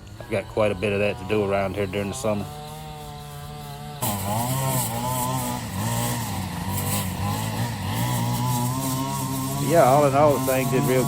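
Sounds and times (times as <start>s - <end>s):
string trimmer engine running: 0.0s - 11.0s.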